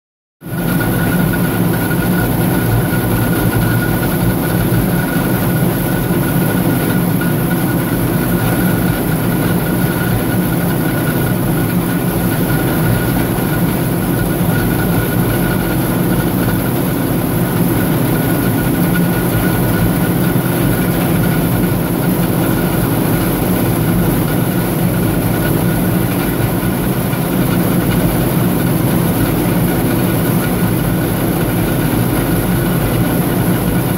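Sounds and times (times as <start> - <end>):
farm machinery running: 0.4 - 33.9
steady high whine: 0.4 - 33.9.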